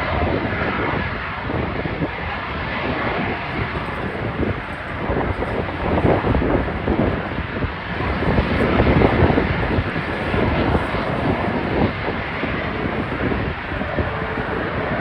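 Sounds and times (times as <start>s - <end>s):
aircraft engine roar: 0.0s - 15.0s.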